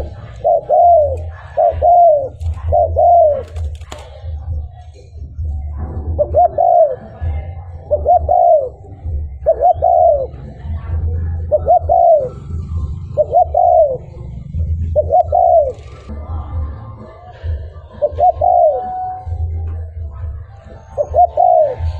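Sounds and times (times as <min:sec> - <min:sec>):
dove cooing: 0:00.0 - 0:04.8, 0:05.4 - 0:16.1, 0:17.7 - 0:21.9.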